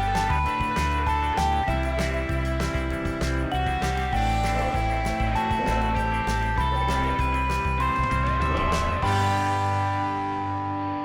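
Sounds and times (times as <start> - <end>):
instrumental music with guitar: 0.0 - 11.0.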